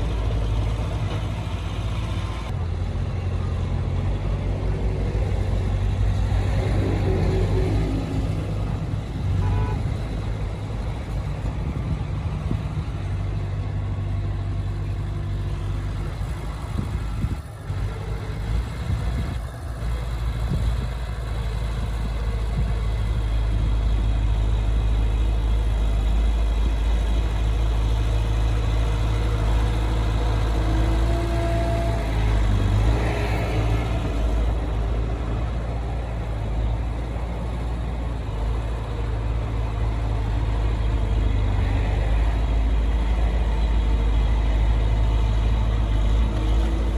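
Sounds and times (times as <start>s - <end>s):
heavy diesel engine rumbling: 0.0s - 46.9s.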